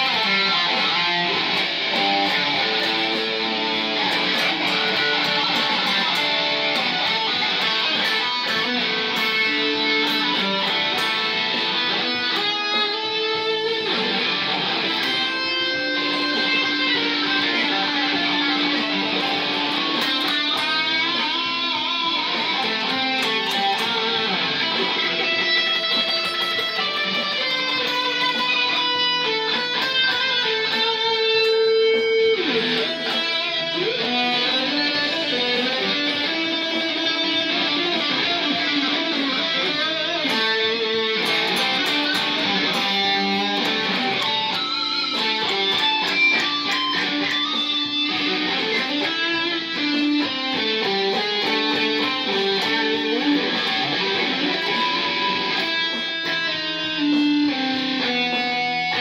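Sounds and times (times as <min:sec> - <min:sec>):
electric guitar blues solo: 0:00.0 - 0:59.0.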